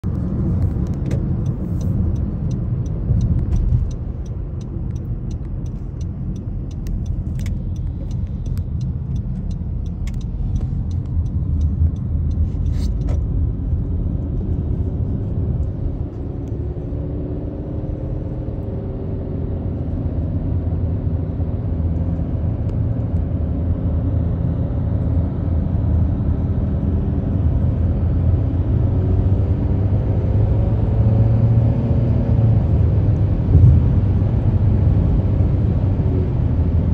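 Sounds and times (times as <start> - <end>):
car road and engine rumble: 0.0 - 36.9.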